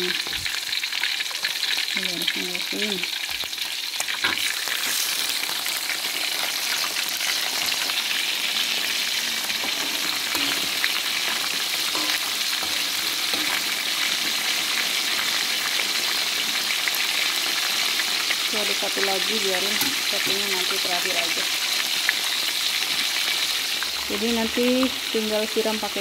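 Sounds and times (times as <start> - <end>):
fish deep-frying in oil: 0.0 - 26.0.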